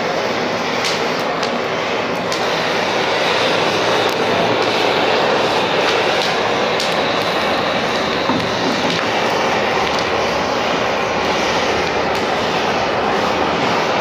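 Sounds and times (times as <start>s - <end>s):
blowtorch flame roaring hiss: 0.0s - 14.0s.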